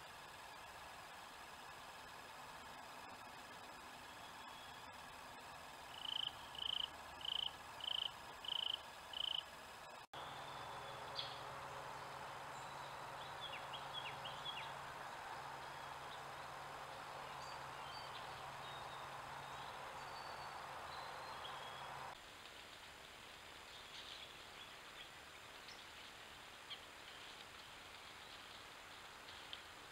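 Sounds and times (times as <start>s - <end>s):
steady hiss: 0.0s - 29.9s.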